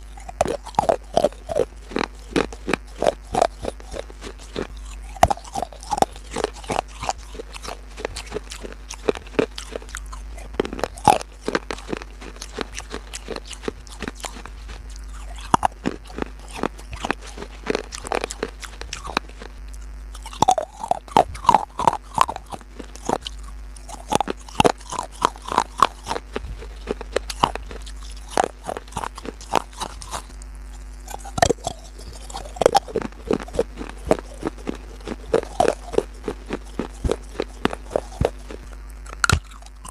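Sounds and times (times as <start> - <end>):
crunchy food chewing: 0.0 - 39.9
steady low hum: 0.0 - 39.9.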